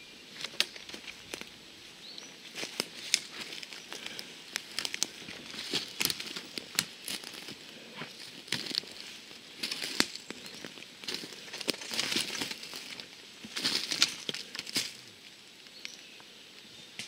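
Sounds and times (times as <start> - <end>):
brush rustling: 0.3 - 15.4
twigs snapping underfoot: 0.4 - 1.6, 2.5 - 16.0.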